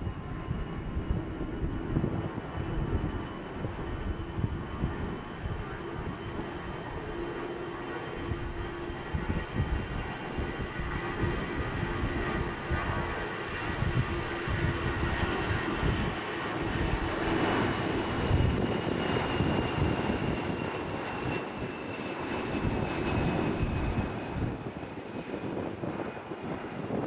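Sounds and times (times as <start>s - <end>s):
airliner engines at takeoff: 0.0s - 27.0s.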